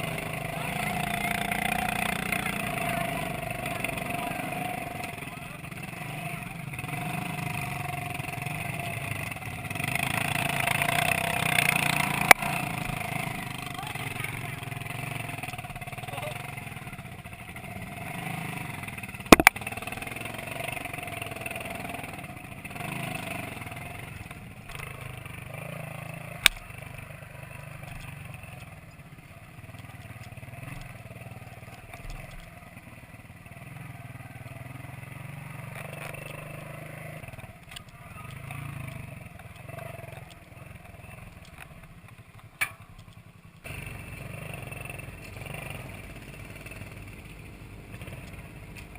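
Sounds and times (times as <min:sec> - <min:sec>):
two-stroke motorcycle engine running: 0:00.0 - 0:48.9.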